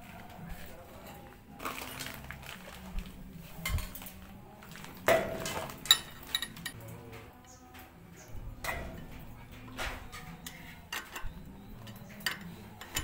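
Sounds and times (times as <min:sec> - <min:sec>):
quiet background music: 0:00.0 - 0:13.0.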